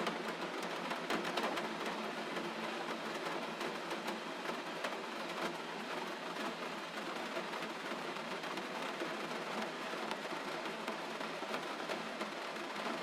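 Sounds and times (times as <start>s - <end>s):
gentle rain falling: 0.0s - 13.0s.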